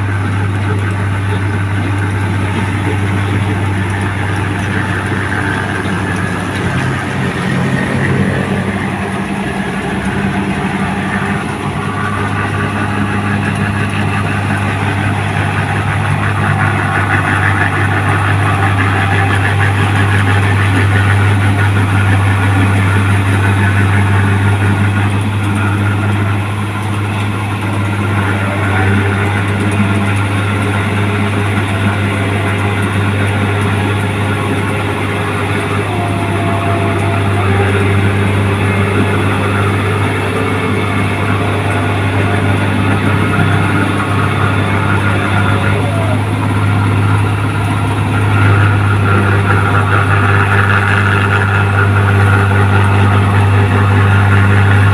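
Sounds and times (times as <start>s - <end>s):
combine harvester engine hum: 0.0s - 54.9s
machine clatter: 0.0s - 54.9s.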